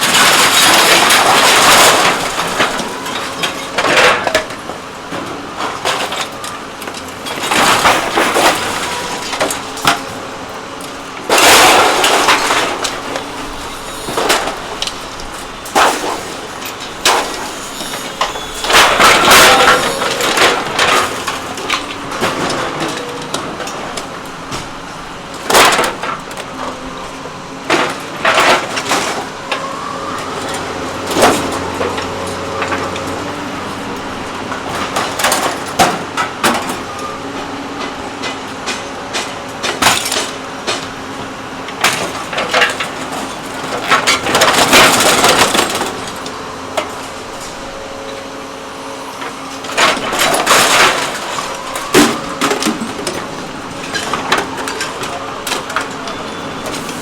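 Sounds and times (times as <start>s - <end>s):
metal crushing bangs and scraping: 0.0s - 57.0s.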